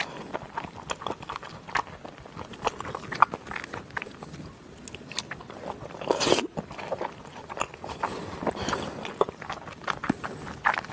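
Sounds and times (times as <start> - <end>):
chewing with mouth clicks: 0.0 - 10.9.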